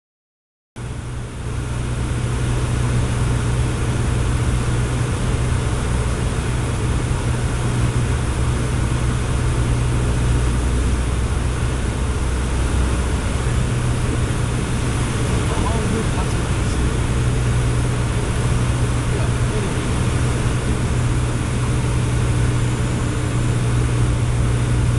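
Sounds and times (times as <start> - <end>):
airplane engine and propeller droning: 0.8 - 24.9.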